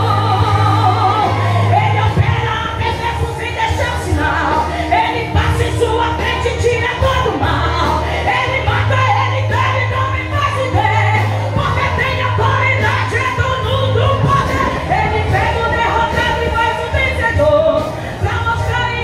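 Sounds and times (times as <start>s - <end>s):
drums: 0.0s - 19.0s
keyboard: 0.0s - 19.0s
low bass line: 0.0s - 19.0s
woman singing into microphone: 0.0s - 19.0s.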